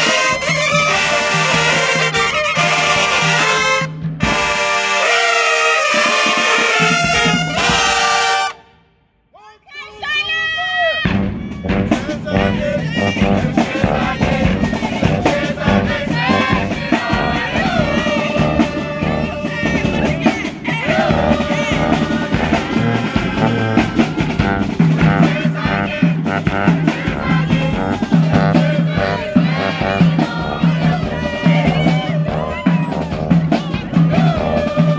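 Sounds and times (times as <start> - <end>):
steady drum beat: 0.0 - 8.6, 11.0 - 34.9
marching band brass: 0.0 - 8.9, 10.1 - 34.9.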